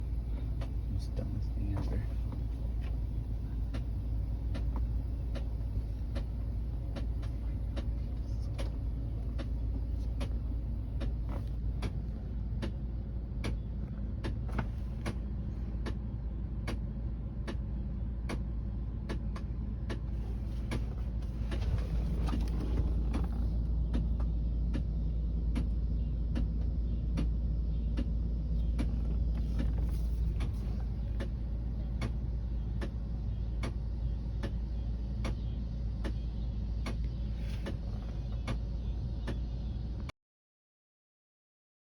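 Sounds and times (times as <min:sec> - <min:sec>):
air conditioning clicking: 0:00.0 - 0:40.1
car engine humming: 0:00.0 - 0:40.1.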